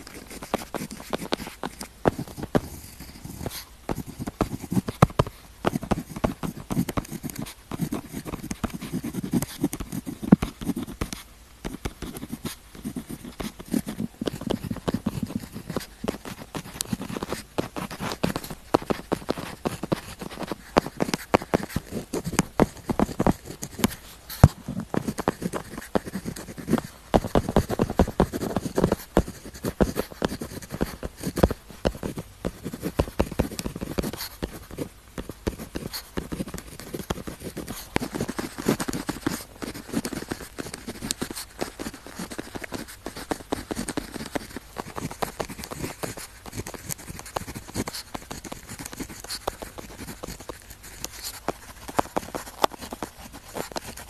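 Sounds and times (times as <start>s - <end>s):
pen writing on paper: 0.0s - 54.0s.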